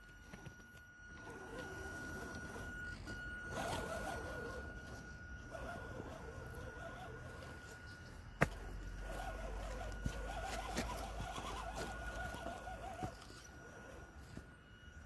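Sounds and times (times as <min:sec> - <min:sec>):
electric motor whining: 0:00.0 - 0:15.0
faint steady high tone: 0:00.0 - 0:15.0.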